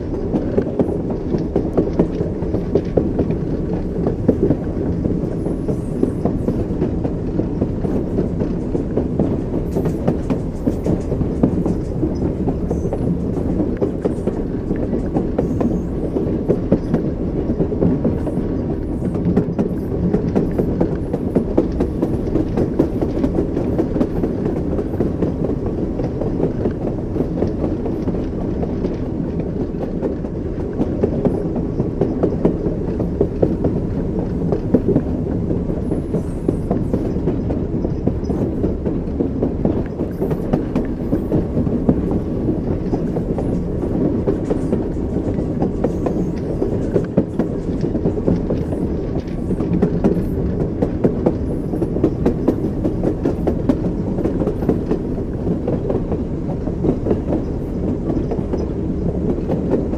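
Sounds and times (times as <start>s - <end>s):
clickety-clack over rail joints: 0.0s - 59.9s
train wheels rumbling: 0.0s - 59.9s.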